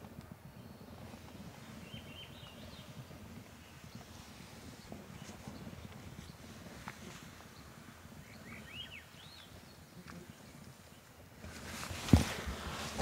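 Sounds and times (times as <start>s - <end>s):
open field ambience: 0.0s - 13.0s.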